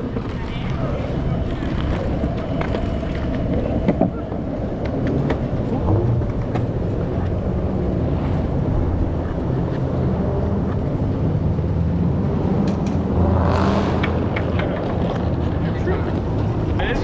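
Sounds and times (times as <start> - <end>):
skateboard wheels rolling on pavement: 0.0 - 17.0.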